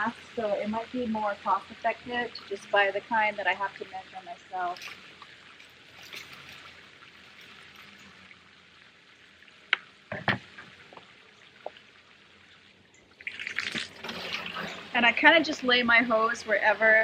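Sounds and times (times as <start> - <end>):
water pouring in a stream: 0.0 - 17.0.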